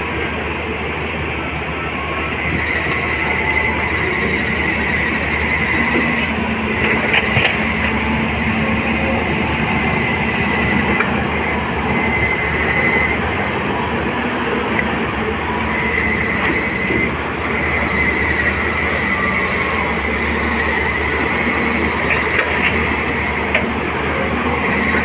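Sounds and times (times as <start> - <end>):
excavator diesel engine running: 0.0 - 25.0
high hydraulic whine: 0.0 - 25.0.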